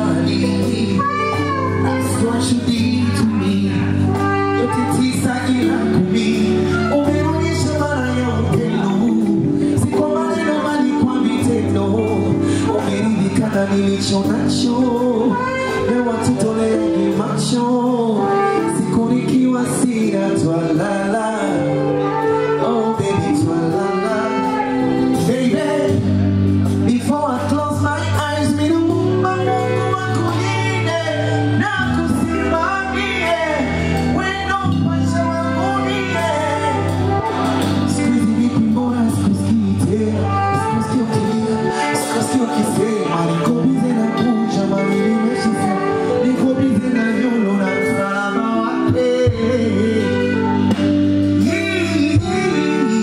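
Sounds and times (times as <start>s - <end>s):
deep bass line: 0.0s - 53.0s
live band playing: 0.0s - 53.0s
person singing: 0.0s - 53.0s.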